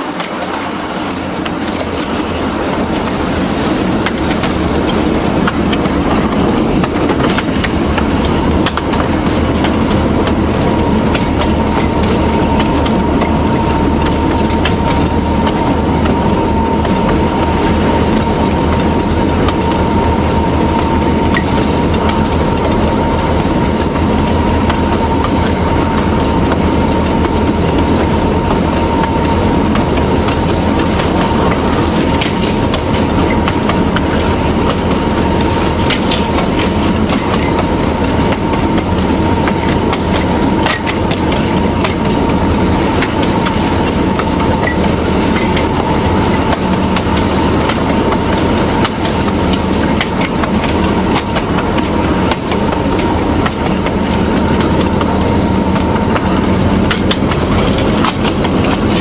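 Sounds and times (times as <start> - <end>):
locomotive engine drone: 0.0 - 59.0
wheels clicking over rail joints: 0.0 - 59.0.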